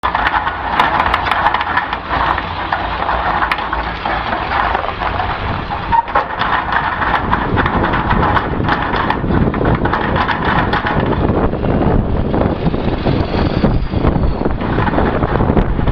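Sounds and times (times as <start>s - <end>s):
low diesel engine rumble: 0.0s - 15.9s.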